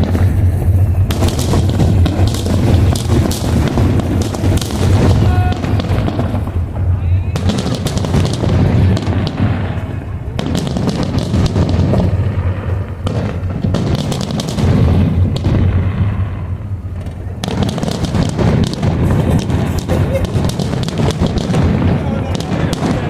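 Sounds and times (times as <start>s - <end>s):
fireworks booming and crackling: 0.0s - 23.0s
low rumble: 0.0s - 23.0s.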